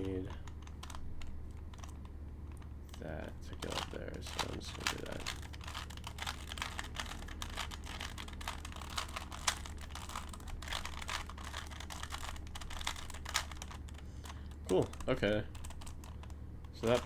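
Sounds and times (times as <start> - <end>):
puzzle cube clicking: 0.0 - 17.0
steady low hum: 0.0 - 17.0.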